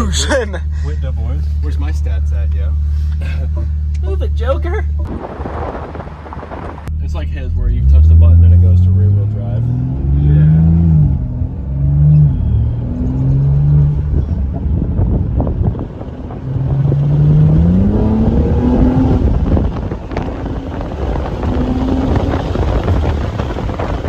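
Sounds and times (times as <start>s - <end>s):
car engine revving: 0.0s - 24.0s
road and drivetrain rumble: 0.0s - 24.0s.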